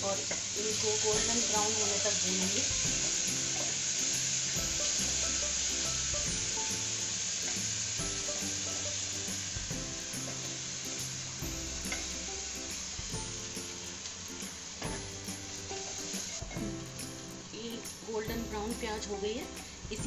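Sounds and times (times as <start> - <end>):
onions sizzling in oil: 0.0 - 20.0
soft background music: 0.0 - 20.0.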